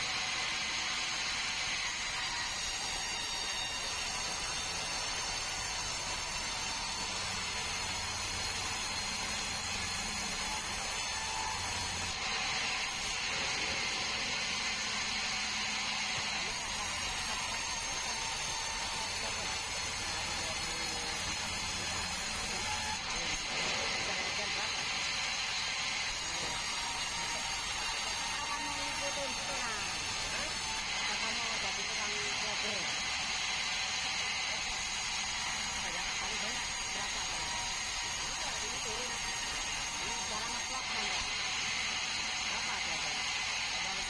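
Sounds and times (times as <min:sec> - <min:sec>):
sawmill saw cutting log: 0:00.0 - 0:44.0.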